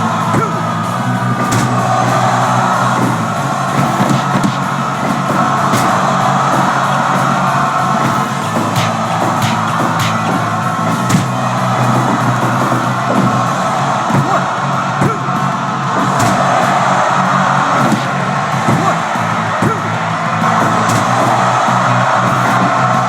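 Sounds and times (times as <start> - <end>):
faint yells: 0.0 - 23.0
short sharp knocks: 1.3 - 14.4, 16.0 - 16.9, 17.7 - 22.9.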